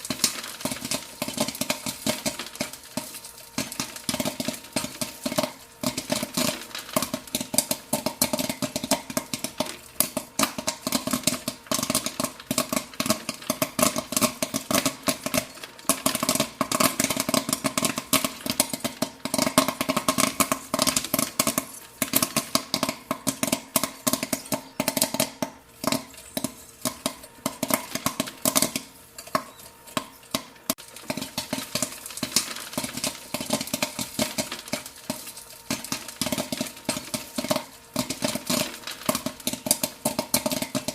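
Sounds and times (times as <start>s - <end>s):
popcorn popping: 0.0s - 40.9s.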